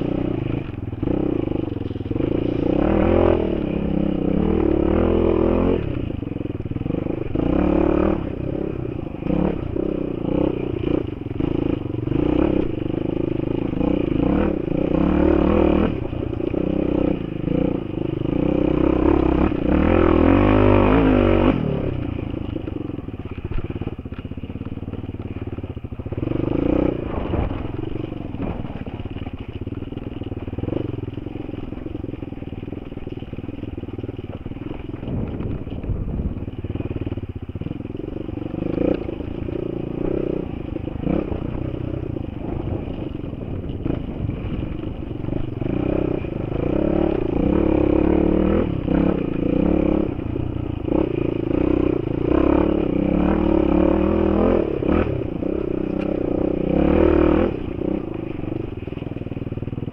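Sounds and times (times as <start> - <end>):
bike rattling over stones: 0.0 - 59.9
motorcycle engine revving: 0.0 - 59.9.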